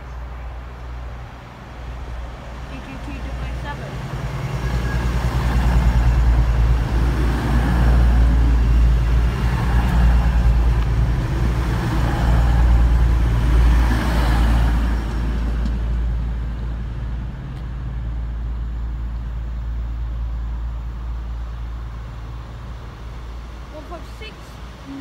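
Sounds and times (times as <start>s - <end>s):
diesel train engine drone: 0.0s - 25.0s
train wheels on rail: 0.0s - 25.0s.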